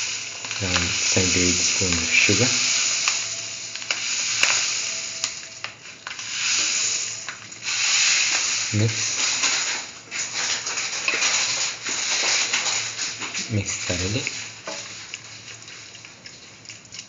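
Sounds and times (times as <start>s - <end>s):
pot boiling with sizzling hiss: 0.0s - 17.0s.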